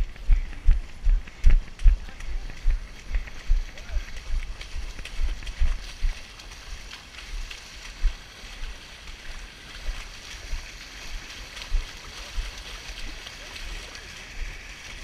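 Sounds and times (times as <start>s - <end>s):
feet splashing in muddy water: 0.0s - 15.0s.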